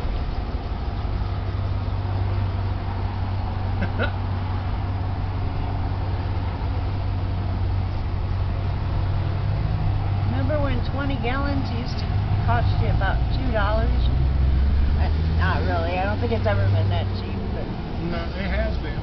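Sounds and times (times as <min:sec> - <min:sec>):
fuel pump humming: 0:00.0 - 0:19.0.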